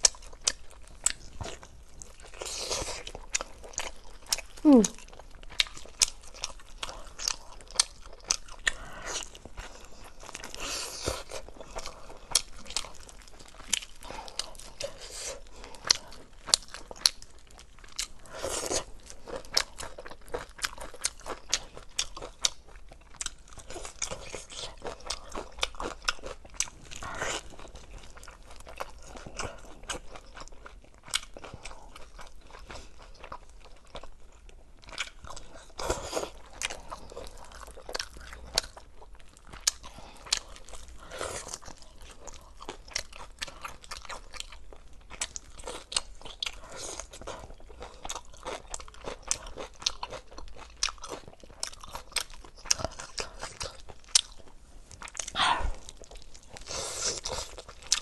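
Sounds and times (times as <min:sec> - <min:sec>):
chewing meat off the bone: 0:00.0 - 0:58.0.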